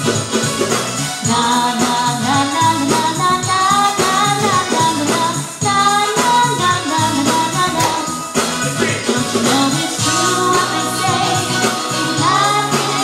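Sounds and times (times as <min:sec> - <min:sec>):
song with singing over a beat: 0:00.0 - 0:13.0.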